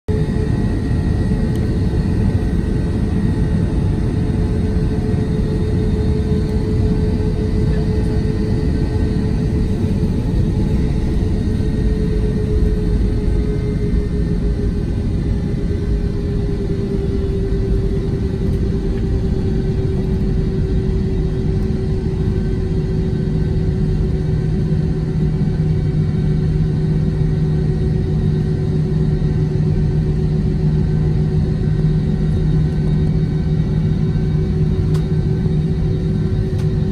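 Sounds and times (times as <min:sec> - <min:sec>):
airliner engine rumble in cabin: 0:00.1 - 0:36.9.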